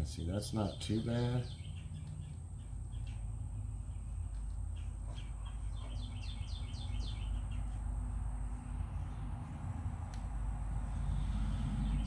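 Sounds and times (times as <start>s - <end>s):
songbird chirping: 0.0s - 12.0s
steady low rumble: 0.0s - 12.0s.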